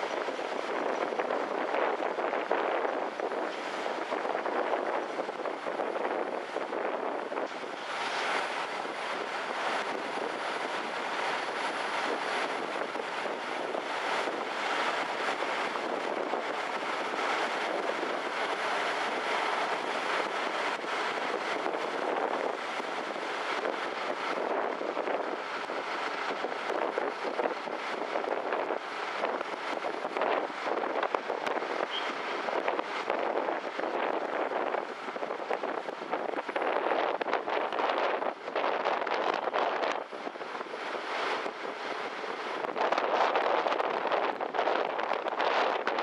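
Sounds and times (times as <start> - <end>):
ship running noise: 0.0 - 46.0
wind buffeting microphone: 0.0 - 46.0.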